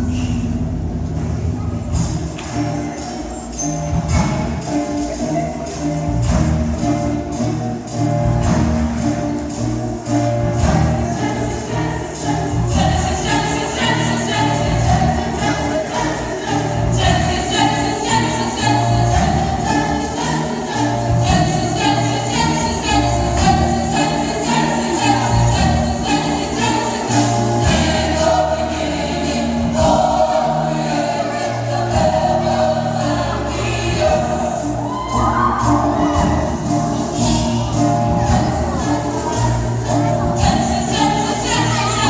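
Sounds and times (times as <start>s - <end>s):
held bass notes: 0.0s - 42.0s
ticking percussion beat: 0.0s - 42.0s
gospel choir singing: 1.9s - 42.0s.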